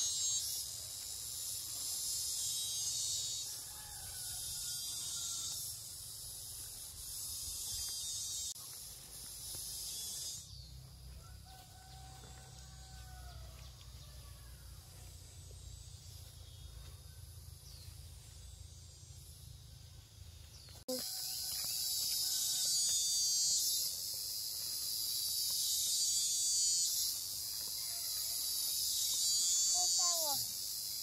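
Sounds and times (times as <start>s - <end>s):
shrill insect chorus: 0.0s - 16.7s, 17.3s - 31.0s.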